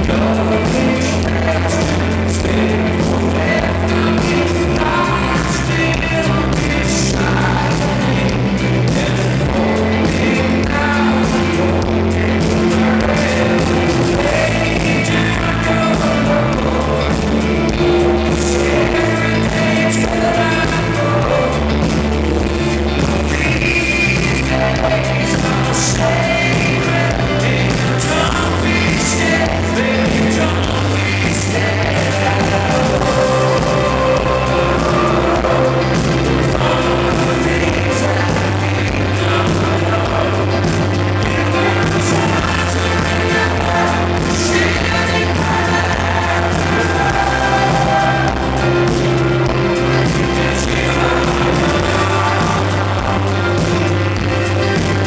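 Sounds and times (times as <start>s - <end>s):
live pop-rock band: 0.0s - 55.0s
male lead vocal: 0.0s - 55.0s.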